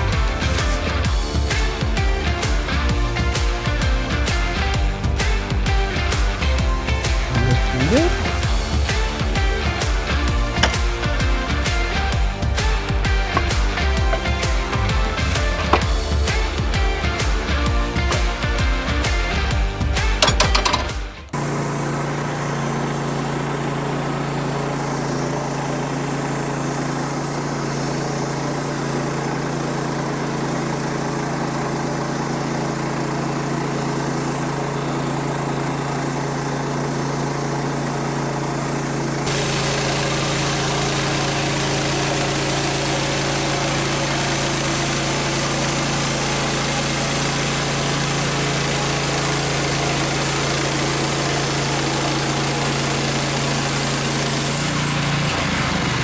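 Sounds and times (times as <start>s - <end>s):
sawmill engine humming: 0.0s - 56.0s.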